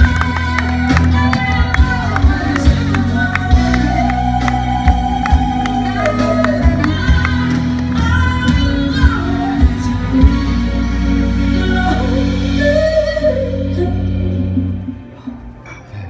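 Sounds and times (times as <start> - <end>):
woman singing into a microphone: 0.0 - 15.0
band music with drum beat: 0.0 - 15.5.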